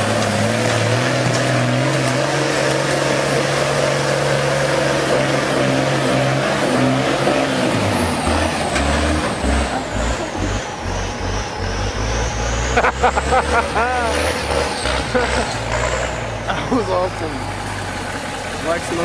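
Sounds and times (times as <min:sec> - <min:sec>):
truck engine running under load: 0:00.0 - 0:19.0.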